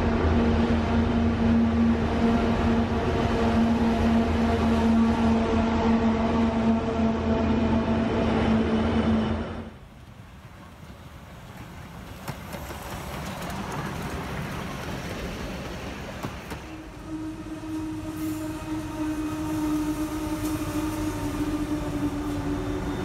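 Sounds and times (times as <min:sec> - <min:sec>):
diesel locomotives hauling freight: 0:00.0 - 0:23.0
rail noise: 0:00.0 - 0:23.0
steam locomotive running rumble: 0:00.0 - 0:23.0.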